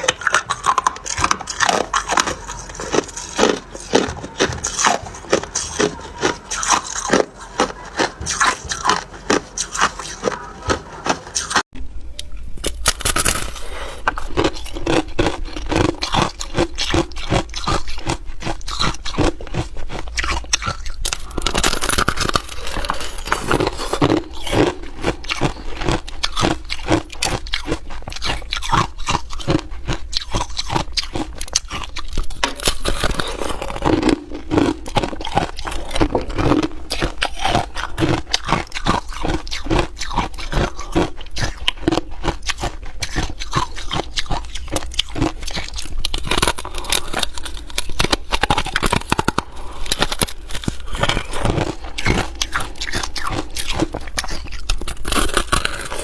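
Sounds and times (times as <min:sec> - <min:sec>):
ice being chewed: 0:00.0 - 0:11.6, 0:12.6 - 0:56.0.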